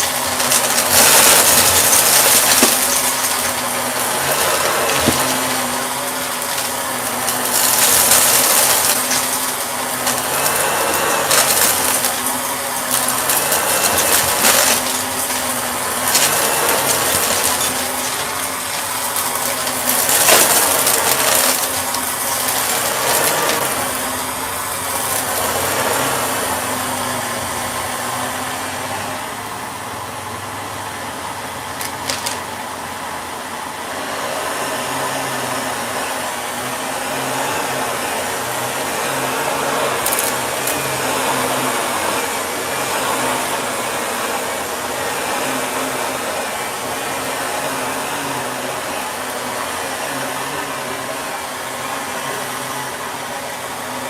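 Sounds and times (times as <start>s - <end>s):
debris rattling in vacuum: 0.0s - 28.4s, 31.6s - 32.7s, 34.0s - 54.0s
vacuum cleaner running: 0.0s - 54.0s.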